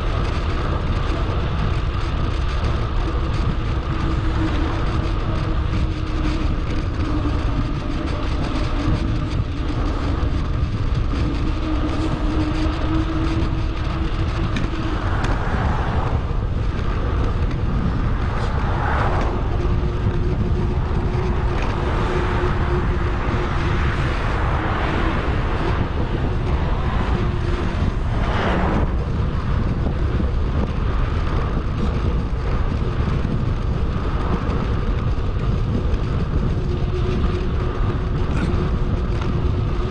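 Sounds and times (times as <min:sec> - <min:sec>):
road and tyre noise: 0:00.0 - 0:39.9
vehicles passing: 0:00.0 - 0:39.9
wind on microphone: 0:00.0 - 0:39.9.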